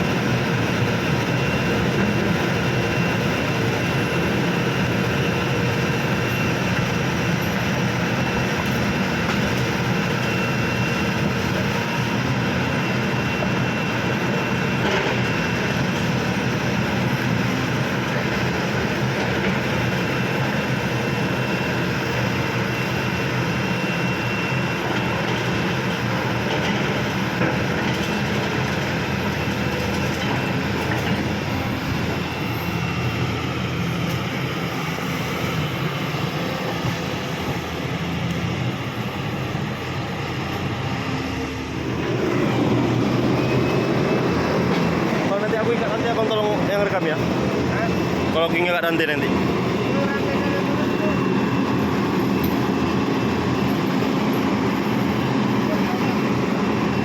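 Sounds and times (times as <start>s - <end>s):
heavy diesel engine drone: 0.0s - 57.0s.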